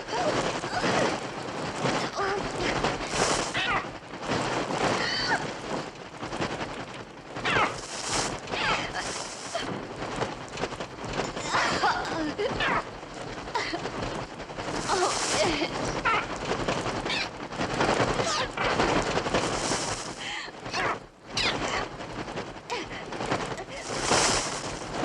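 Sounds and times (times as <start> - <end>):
wings flapping: 0.0 - 25.0.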